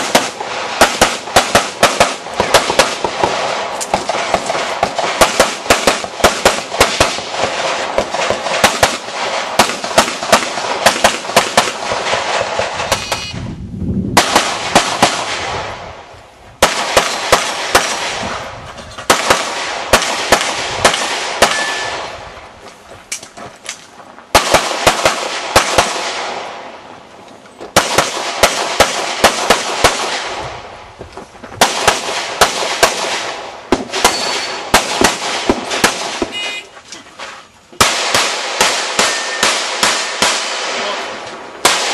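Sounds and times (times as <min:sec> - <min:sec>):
rapid pistol shots: 0:00.0 - 0:13.3, 0:14.2 - 0:15.8, 0:16.6 - 0:18.5, 0:19.1 - 0:22.2, 0:24.3 - 0:26.6, 0:27.7 - 0:30.5, 0:31.6 - 0:36.4, 0:37.8 - 0:41.9.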